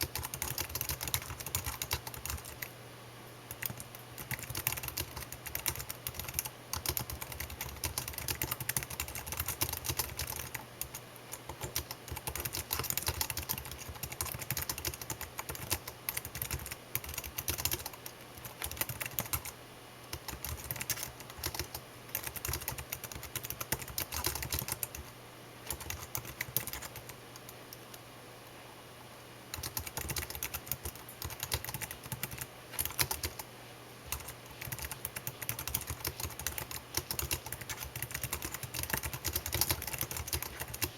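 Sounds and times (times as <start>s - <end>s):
keyboard typing clicks: 0.0s - 2.7s, 3.5s - 19.5s, 20.1s - 25.1s, 25.7s - 28.0s, 29.5s - 33.5s, 34.1s - 40.9s.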